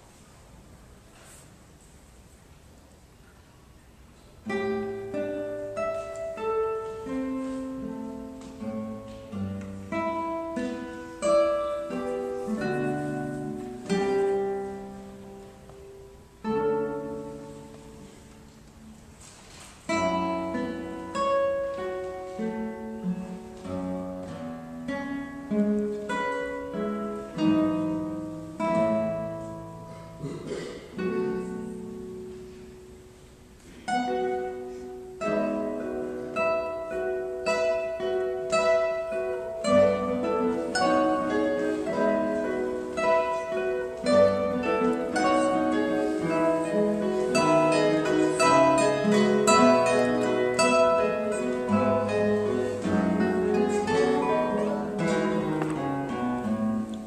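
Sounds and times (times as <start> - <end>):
guitar quartet playing: 0.1 - 57.0.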